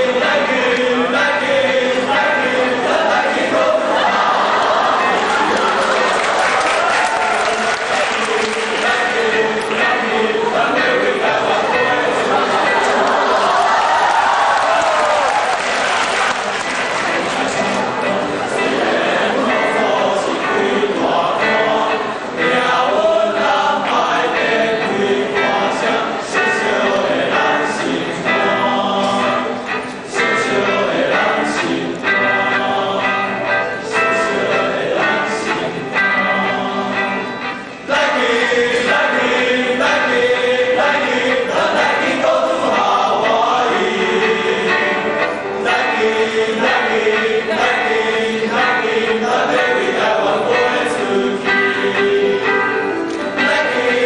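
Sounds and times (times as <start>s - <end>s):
choir singing in parts: 0.0s - 54.0s.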